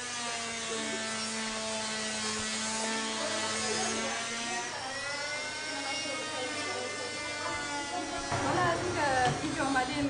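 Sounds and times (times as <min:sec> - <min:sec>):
small electric motor buzzing: 0:00.0 - 0:10.0.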